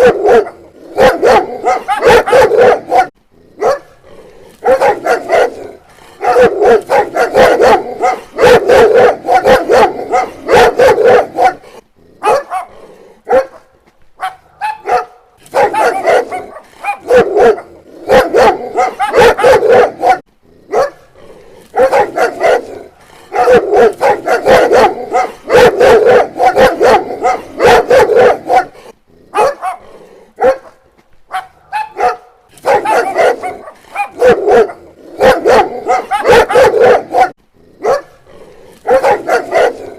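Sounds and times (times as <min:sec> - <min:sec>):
dog barking rapidly: 0:00.0 - 0:04.0, 0:04.6 - 0:21.1, 0:21.7 - 0:38.2, 0:38.8 - 0:39.9.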